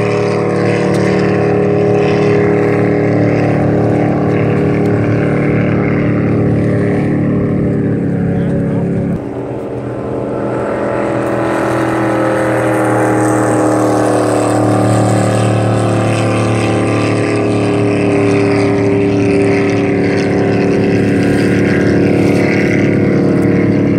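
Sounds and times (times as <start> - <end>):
jet boat engine droning: 0.0 - 23.9.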